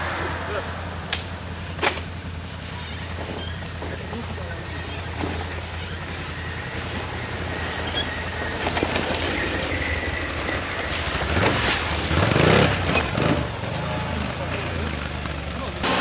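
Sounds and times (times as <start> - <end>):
atv engine rumbling under load: 0.0 - 16.0.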